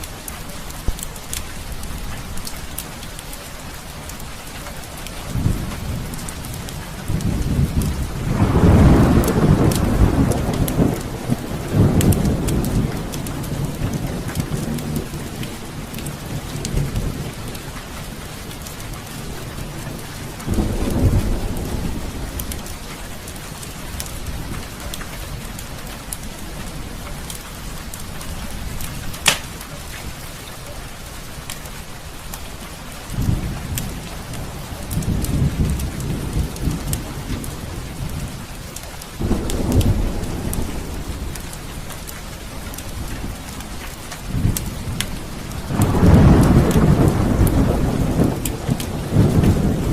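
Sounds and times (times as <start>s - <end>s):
thunder rumbling: 0.0s - 30.4s, 32.5s - 49.9s
fireplace fire crackling: 0.0s - 47.6s
heavy rain pouring: 0.0s - 49.9s.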